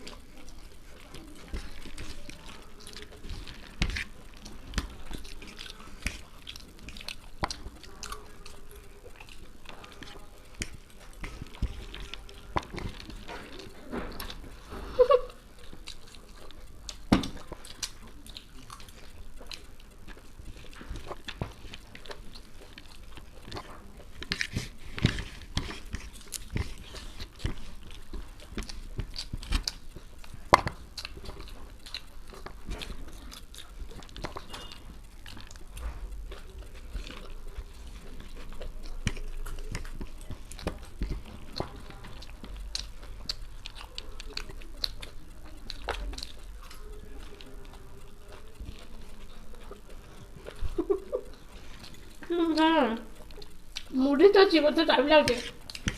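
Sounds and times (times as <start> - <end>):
people chewing and crunching food: 0.0 - 55.9.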